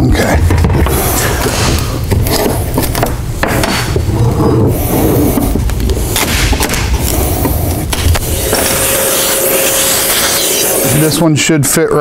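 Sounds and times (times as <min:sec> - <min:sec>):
wood scraping on wood: 0:00.2 - 0:11.2.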